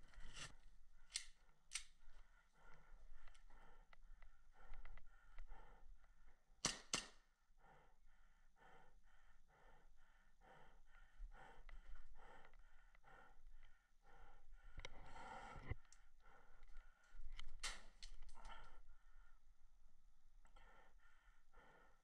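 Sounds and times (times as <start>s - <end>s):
fast heavy breathing: 0.0s - 22.0s.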